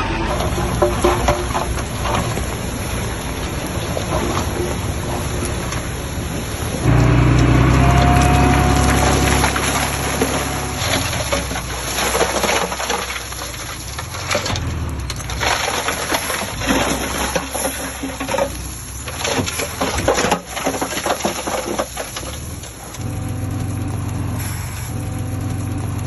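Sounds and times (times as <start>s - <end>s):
dirt and stones tumbling: 0.0s - 24.4s
diesel engine hum: 0.0s - 26.0s.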